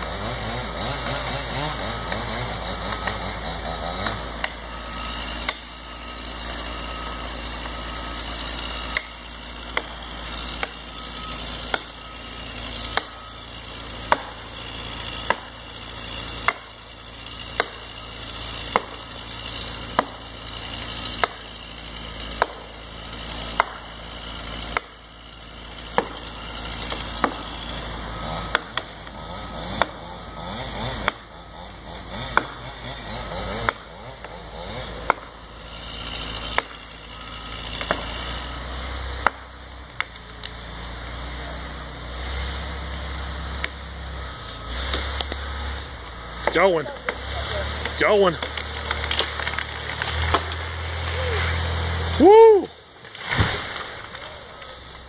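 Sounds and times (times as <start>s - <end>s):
steady engine hum: 0.0s - 55.0s.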